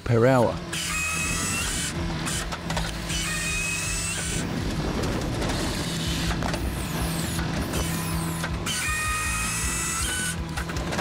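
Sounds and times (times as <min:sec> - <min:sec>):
high machine whine: 0:00.0 - 0:11.0
loader engine under hydraulic load: 0:00.0 - 0:11.0.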